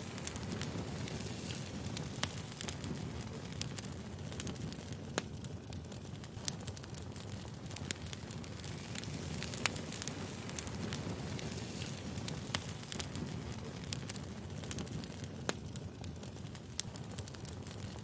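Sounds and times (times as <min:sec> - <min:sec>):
firewood crackling and popping: 0:00.0 - 0:18.0.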